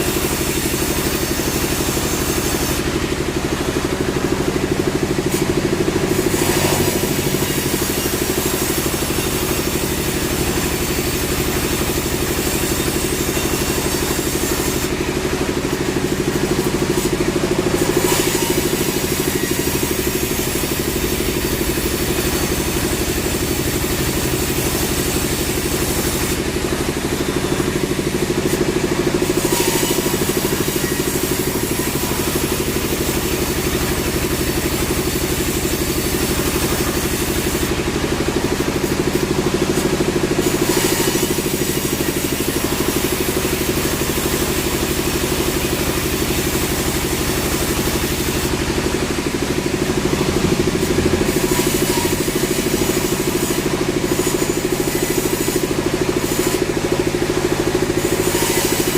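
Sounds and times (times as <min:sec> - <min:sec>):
sawmill machinery droning: 0:00.0 - 0:58.9.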